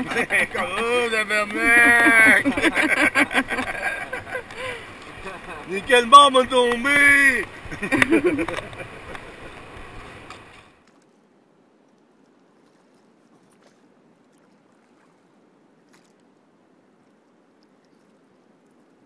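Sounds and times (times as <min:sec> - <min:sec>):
oars in calm water: 0:00.0 - 0:19.0.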